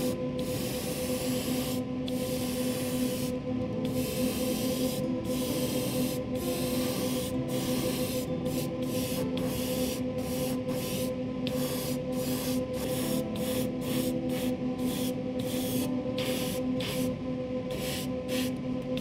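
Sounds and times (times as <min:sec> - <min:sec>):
airbrush hissing in bursts: 0:00.0 - 0:17.1, 0:17.7 - 0:18.6
steady hum: 0:00.0 - 0:19.0.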